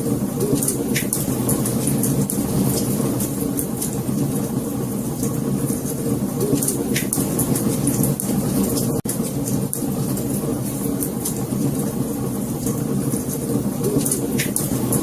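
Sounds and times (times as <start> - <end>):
wood fire crackling: 0.0 - 15.0
fire pops and snaps: 0.4 - 4.5, 5.2 - 12.0, 12.6 - 15.0.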